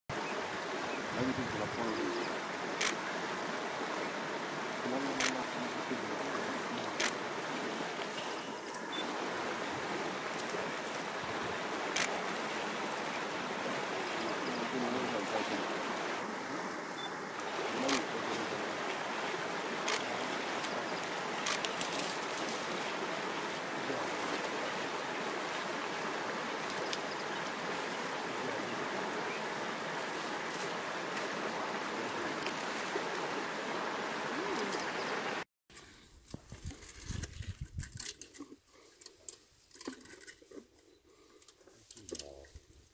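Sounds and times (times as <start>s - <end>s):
river rushing: 0.2s - 35.4s.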